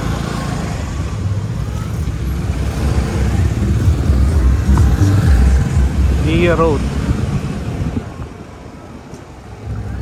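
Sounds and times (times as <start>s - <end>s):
road noise: 0.0s - 10.0s
vehicle engine rumble: 0.0s - 10.0s.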